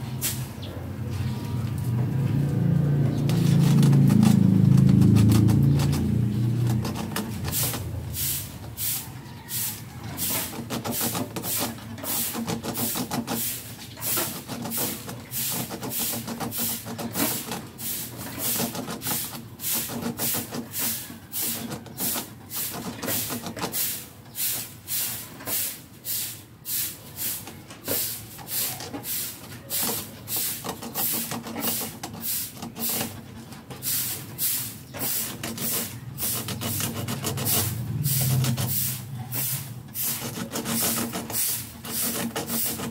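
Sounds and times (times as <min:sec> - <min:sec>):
rasping filing strokes: 0:03.2 - 0:24.8, 0:27.4 - 0:42.9.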